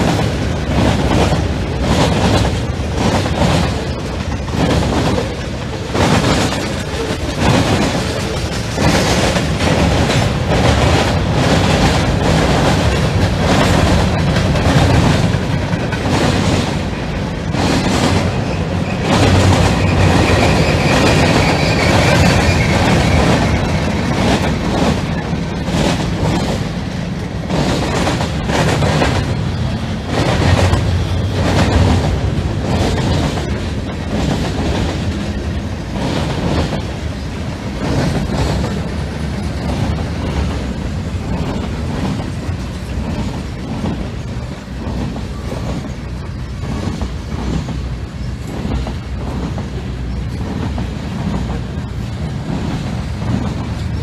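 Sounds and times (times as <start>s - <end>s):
freight train clattering over rails: 0.0s - 54.0s
train wheel squeal: 0.0s - 54.0s.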